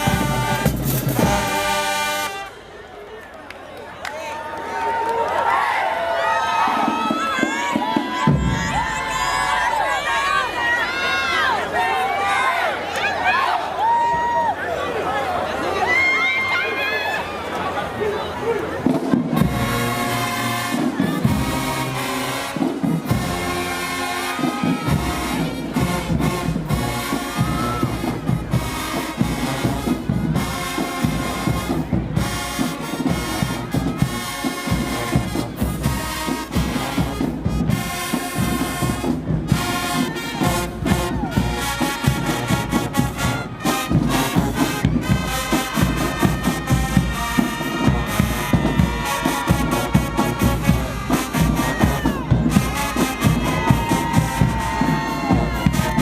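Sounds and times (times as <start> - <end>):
drums: 0.0 - 2.5, 6.2 - 12.4, 18.4 - 56.0
marching band brass music: 0.0 - 3.1, 5.8 - 13.6, 18.6 - 56.0.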